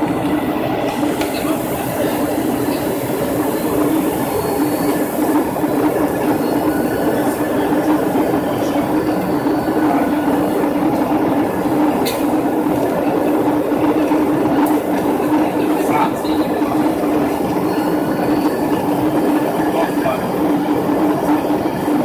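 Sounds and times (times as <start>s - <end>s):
airliner cabin engine noise: 0.0s - 22.0s.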